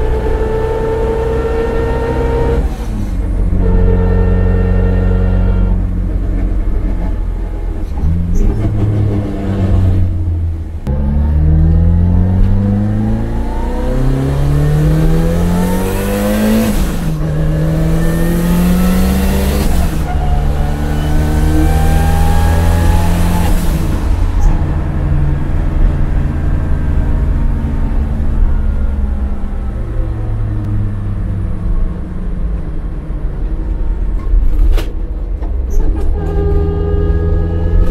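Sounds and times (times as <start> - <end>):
car engine accelerating: 0.0 - 34.7, 35.4 - 37.9.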